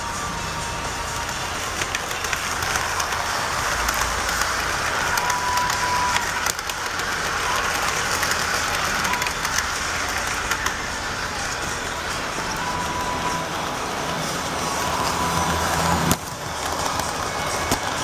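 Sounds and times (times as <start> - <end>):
model train rolling on track: 0.0 - 18.0
wheels clicking over rail joints: 0.0 - 18.0.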